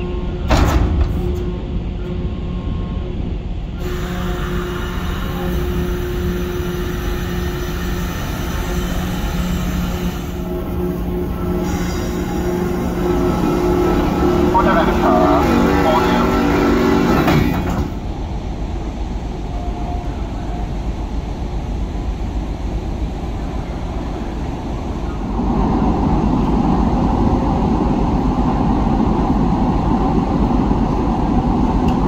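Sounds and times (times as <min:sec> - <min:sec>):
ship engines rumbling: 0:00.0 - 0:32.0.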